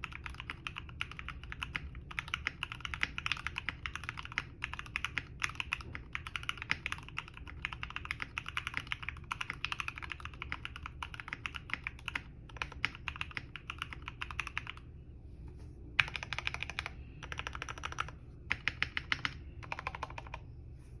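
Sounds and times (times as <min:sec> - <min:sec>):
thocky mechanical keyboard typing: 0:00.0 - 0:14.8, 0:16.0 - 0:20.4.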